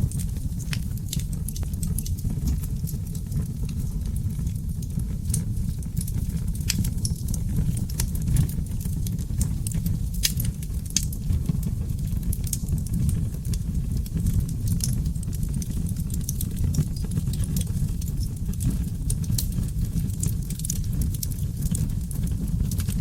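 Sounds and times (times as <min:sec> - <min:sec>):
fire crackling and popping: 0:00.0 - 0:23.0
fire flames rumbling: 0:00.0 - 0:23.0.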